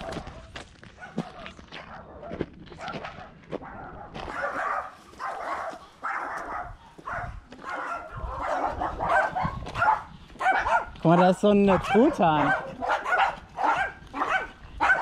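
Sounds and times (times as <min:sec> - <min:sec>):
footsteps on dirt path: 0:00.0 - 0:15.0.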